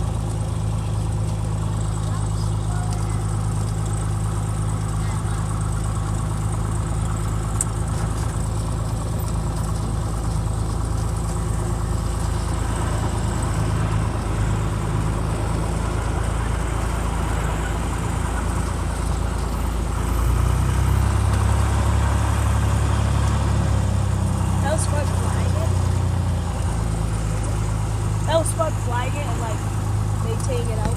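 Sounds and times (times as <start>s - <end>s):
airplane engine and propeller: 0.0s - 30.9s.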